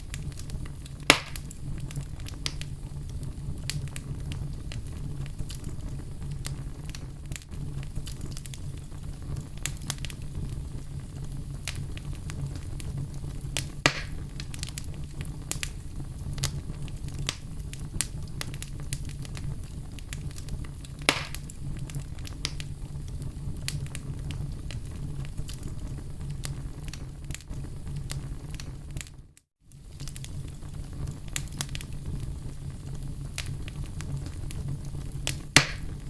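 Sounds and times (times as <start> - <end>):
fire crackling in a fireplace: 0.0 - 36.0
fire pops: 0.0 - 36.0.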